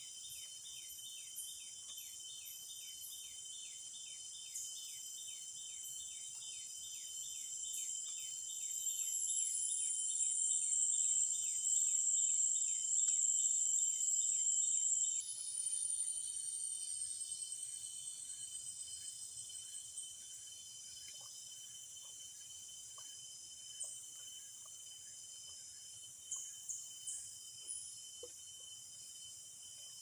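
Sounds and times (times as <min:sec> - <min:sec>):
insects shrilling and chirping: 0:00.0 - 0:30.0.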